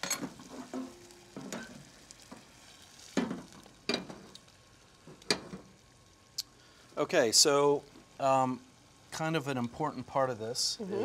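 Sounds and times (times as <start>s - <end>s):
faint sizzle from pot: 0.0s - 11.0s.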